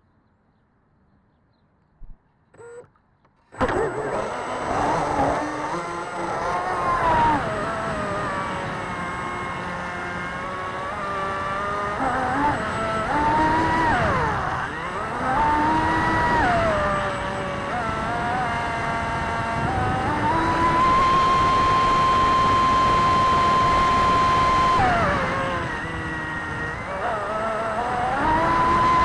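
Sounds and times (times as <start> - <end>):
boat motor whining: 2.5 - 29.0.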